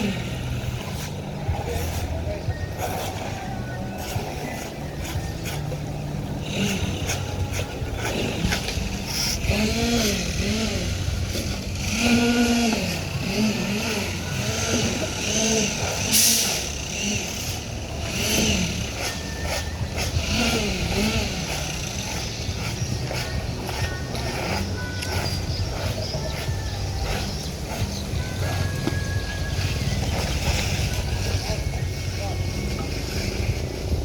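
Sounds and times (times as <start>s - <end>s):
diesel engine running steadily: 0.0s - 34.0s.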